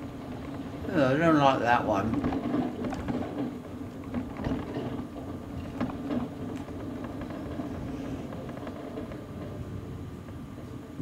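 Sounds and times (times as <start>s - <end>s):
wheels rumbling: 0.0s - 11.0s.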